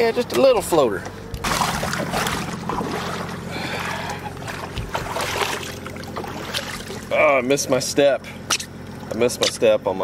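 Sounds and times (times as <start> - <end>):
vehicle engine idling: 0.0 - 10.0
water lapping against boat hull: 0.3 - 9.8.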